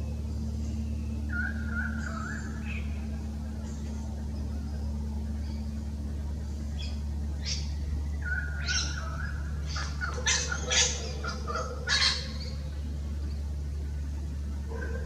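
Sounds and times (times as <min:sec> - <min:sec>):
held bird notes: 0:00.0 - 0:15.0.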